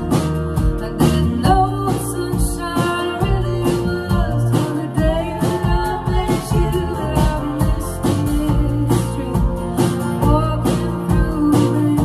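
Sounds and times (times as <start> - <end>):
acoustic guitars strummed: 0.0 - 12.0
bass: 0.0 - 12.0
steady drum beat: 0.0 - 12.0
women singing: 0.0 - 12.0.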